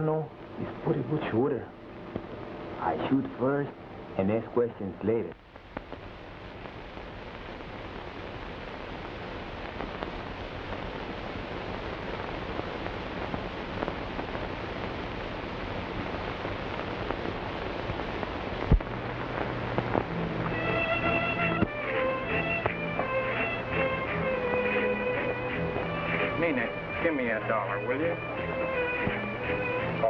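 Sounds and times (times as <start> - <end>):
film soundtrack hiss: 0.0 - 30.0.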